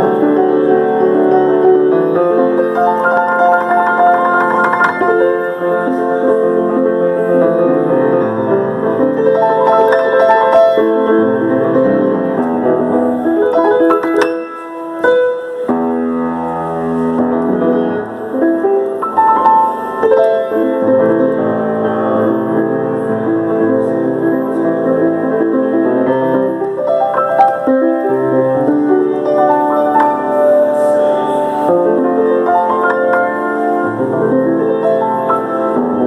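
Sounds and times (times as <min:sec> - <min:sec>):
solo piano: 0:00.0 - 0:36.0.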